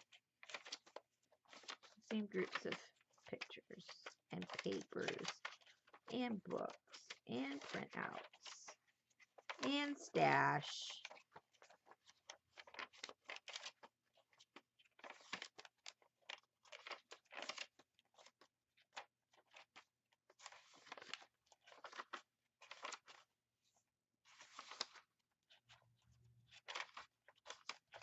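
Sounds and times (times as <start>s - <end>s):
paper rustling and crinkling: 0.0s - 28.0s.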